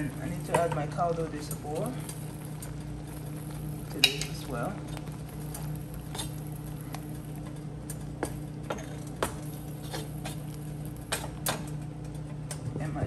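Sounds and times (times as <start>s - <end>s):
steady low hum: 0.0s - 13.0s
utensils tapping against a pot: 0.3s - 12.6s.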